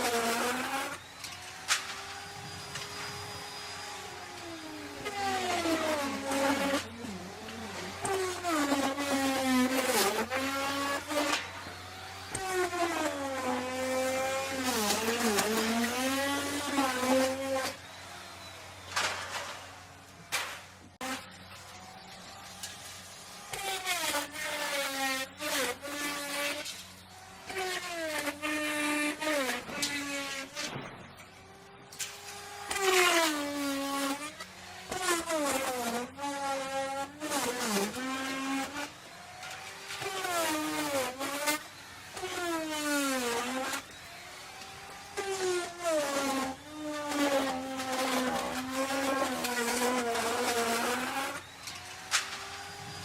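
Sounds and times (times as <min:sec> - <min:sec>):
router bit cutting wood: 0:00.0 - 0:53.0
wood router motor whine: 0:00.0 - 0:53.0.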